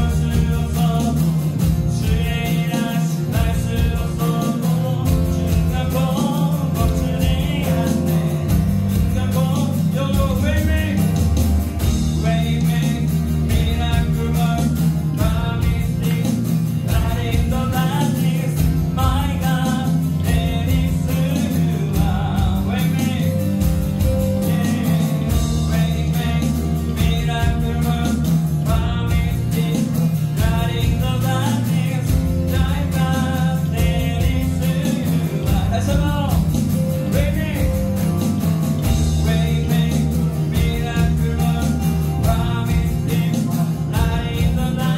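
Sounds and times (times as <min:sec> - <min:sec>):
band playing worship song: 0:00.0 - 0:44.9
person singing: 0:00.0 - 0:44.9.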